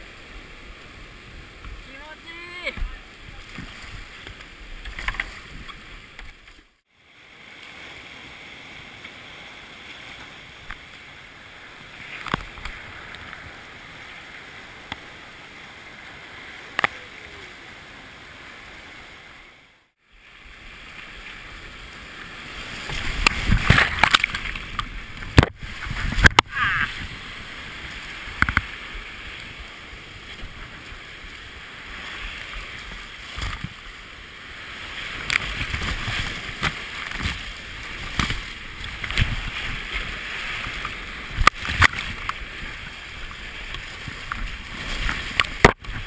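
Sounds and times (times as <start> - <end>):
creek water rushing over boulders: 0.0 - 46.0
water splashing over kayak: 0.0 - 46.0.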